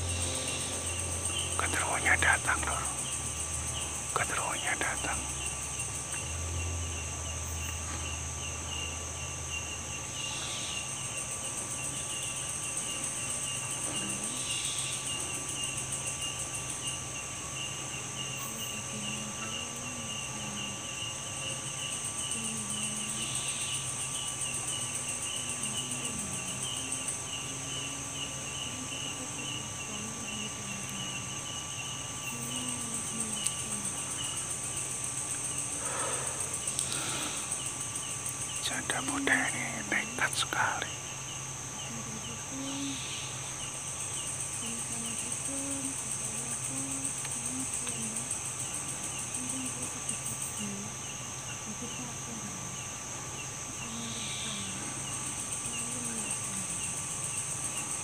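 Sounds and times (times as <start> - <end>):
crickets and insects calling: 0.0 - 58.0.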